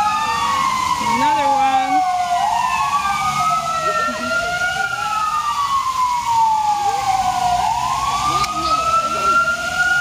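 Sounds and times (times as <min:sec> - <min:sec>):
fire engine siren wailing: 0:00.0 - 0:10.0.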